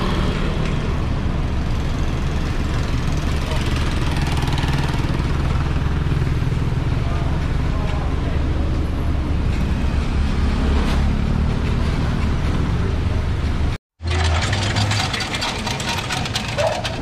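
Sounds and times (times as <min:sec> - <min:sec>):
motorcycles and cars passing: 0:00.0 - 0:17.0.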